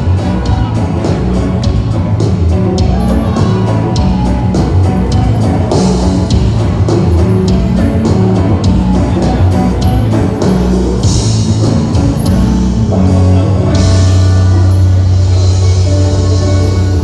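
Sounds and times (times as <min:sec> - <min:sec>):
bass line: 0:00.0 - 0:17.0
drum kit beat: 0:00.0 - 0:17.0
guitar: 0:00.0 - 0:17.0.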